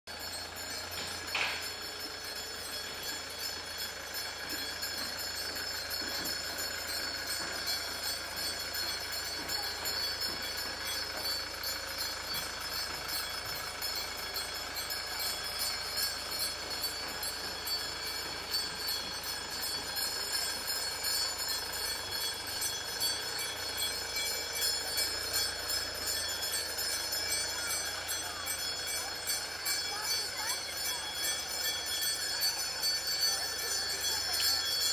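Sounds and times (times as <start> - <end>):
many people walking: 0.1 - 34.9
small bells jingling: 0.1 - 34.9.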